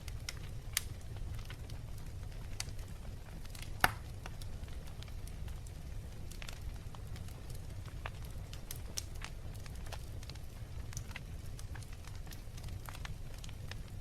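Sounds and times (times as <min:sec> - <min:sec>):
fire crackling and popping: 0:00.0 - 0:14.0
fire rumbling in a fireplace: 0:00.0 - 0:14.0.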